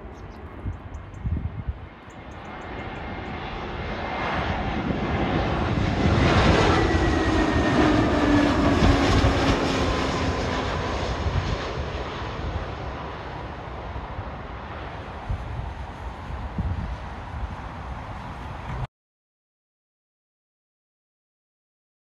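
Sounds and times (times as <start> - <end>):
jet airliner passing overhead: 0.0 - 18.9
jet engine whine dropping in pitch: 0.0 - 18.9.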